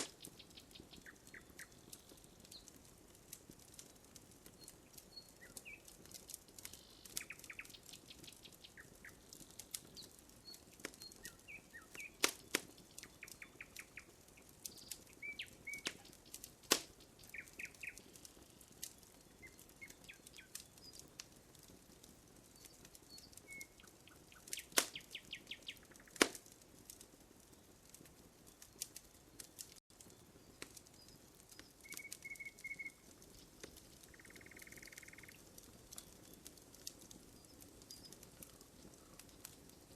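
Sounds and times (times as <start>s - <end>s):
small birds chirping: 0.0s - 26.6s, 27.5s - 39.9s
campfire crackling and popping: 0.0s - 39.9s.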